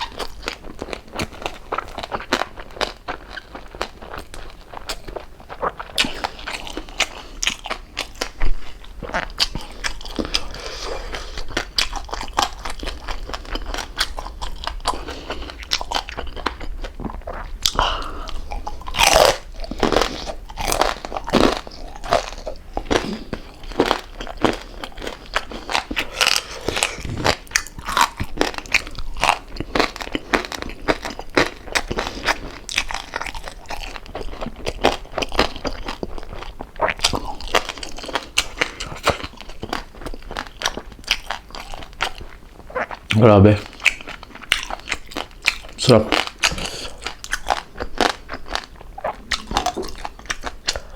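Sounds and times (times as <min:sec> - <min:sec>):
chewing crunchy fried food: 0:00.0 - 0:50.9.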